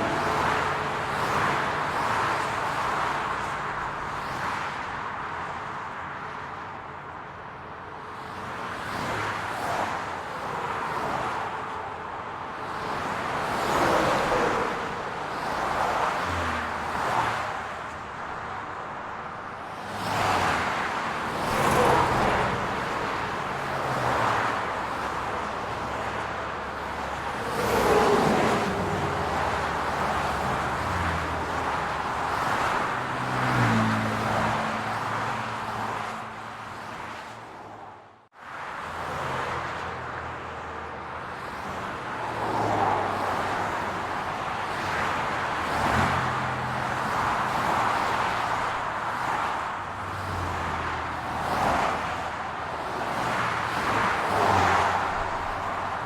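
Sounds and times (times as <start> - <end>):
cars passing: 0.0 - 56.0
traffic hum: 0.0 - 56.0.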